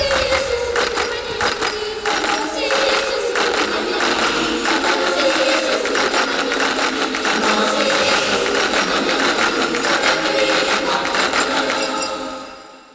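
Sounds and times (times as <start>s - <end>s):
music with fast percussion: 0.0s - 12.5s.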